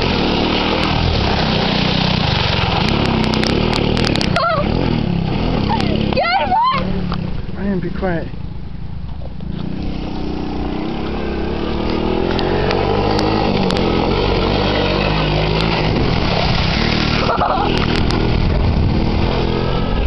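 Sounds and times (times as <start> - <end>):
three-wheeler engine revving: 0.0 - 20.0.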